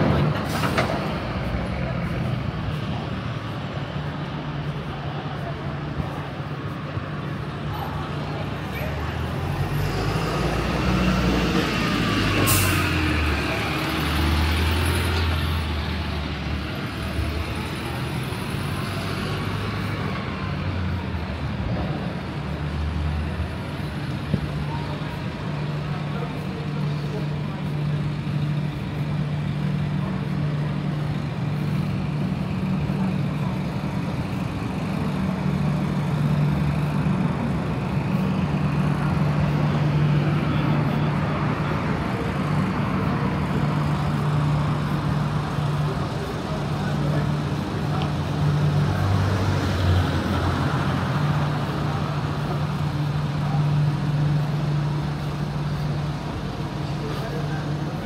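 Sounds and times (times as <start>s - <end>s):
cars driving along road: 0.0s - 58.0s.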